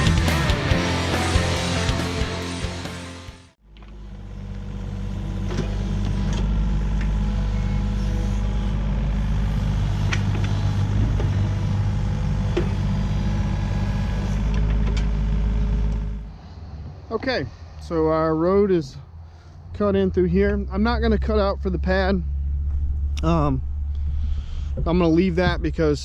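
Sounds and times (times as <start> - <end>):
heavy equipment diesel engine: 0.0 - 26.0.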